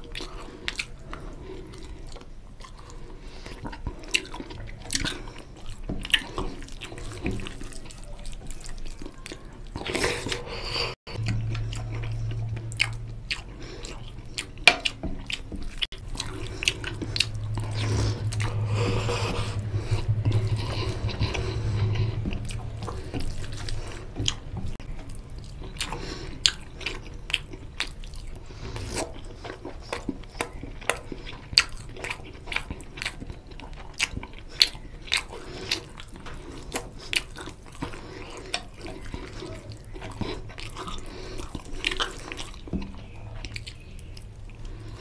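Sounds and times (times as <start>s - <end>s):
wet chewing and mouth smacking: 0.0s - 45.0s
wet squishing of rice and gravy: 0.0s - 45.0s.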